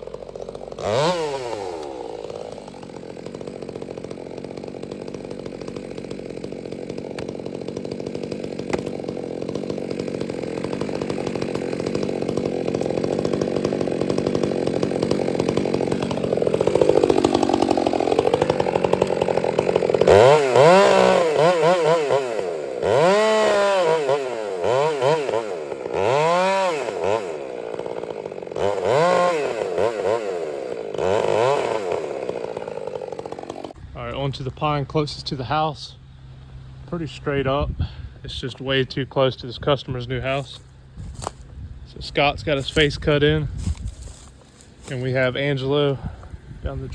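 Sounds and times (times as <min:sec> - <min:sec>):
chainsaw running and revving: 0:00.0 - 0:35.7, 0:38.4 - 0:46.9.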